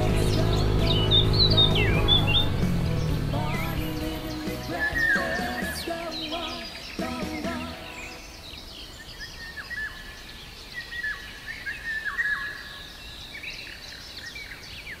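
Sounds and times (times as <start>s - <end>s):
birds chirping: 0.0s - 15.0s
faint outdoor background noise: 0.0s - 15.0s.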